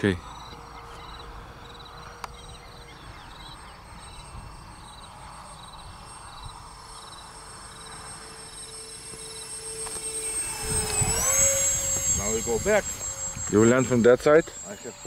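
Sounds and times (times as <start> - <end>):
electric ducted fan jet whine: 0.0 - 15.0
insects chirping: 0.2 - 15.0.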